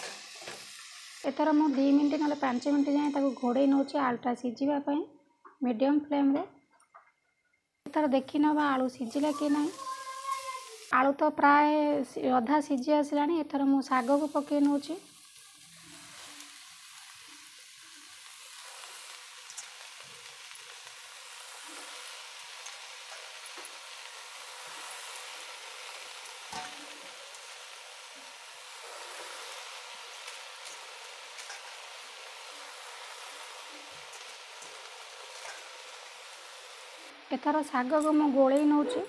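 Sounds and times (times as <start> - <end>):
leaves and potatoes sizzling: 0.0 - 4.0, 7.9 - 39.0.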